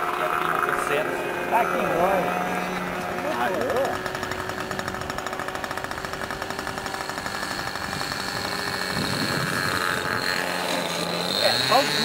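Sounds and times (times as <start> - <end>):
model airplane motor whine: 0.0 - 12.0
rapid rattling pulse: 0.0 - 12.0.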